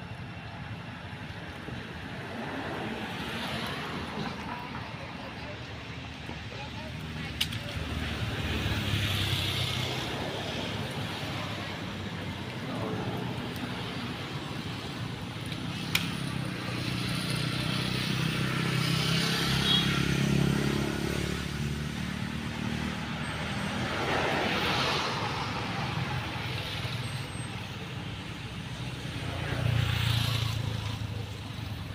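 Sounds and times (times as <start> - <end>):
vehicles passing: 0.0 - 31.9.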